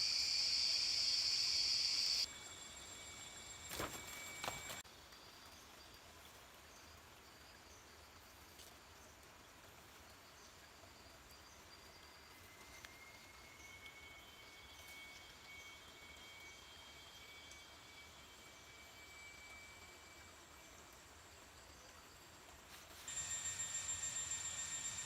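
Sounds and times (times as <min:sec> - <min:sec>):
insects chirping: 0:00.0 - 0:06.0, 0:10.1 - 0:25.0.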